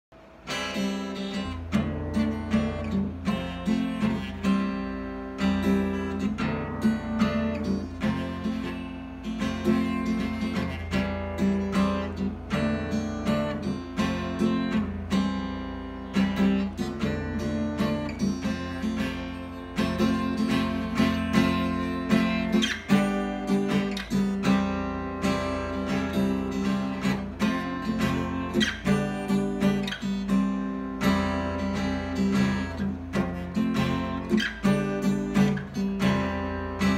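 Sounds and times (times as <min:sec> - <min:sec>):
acoustic guitar chords: 0:00.2 - 0:36.9.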